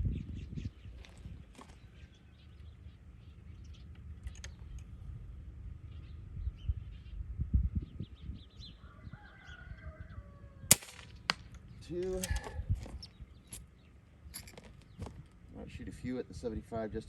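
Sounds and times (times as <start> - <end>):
steady low rumble: 0.0 - 8.8, 10.7 - 17.0
wild birds chirping: 0.1 - 15.9.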